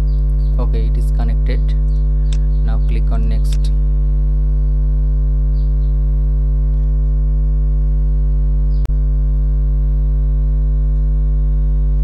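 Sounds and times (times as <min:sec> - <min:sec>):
buzzy electrical mains hum: 0:00.0 - 0:12.0.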